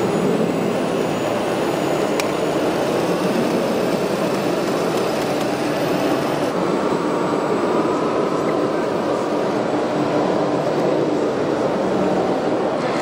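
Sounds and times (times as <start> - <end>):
crowded hall background noise: 0.0 - 13.0.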